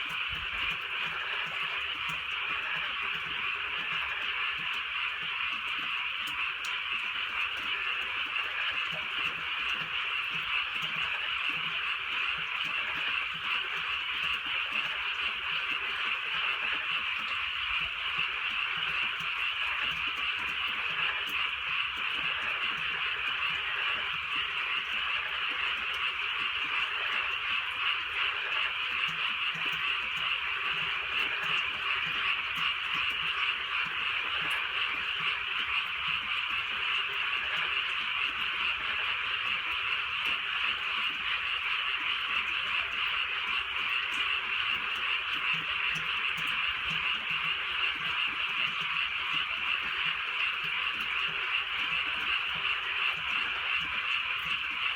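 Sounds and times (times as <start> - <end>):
chorus of frogs calling: 0.0 - 54.9.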